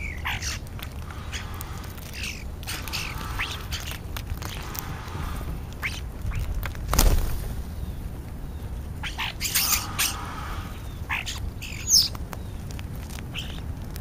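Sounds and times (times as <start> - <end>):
birds calling: 0.0 - 13.8.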